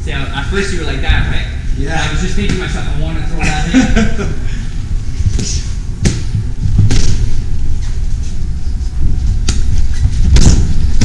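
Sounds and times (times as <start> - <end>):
low rumble of movement: 0.0 - 11.0.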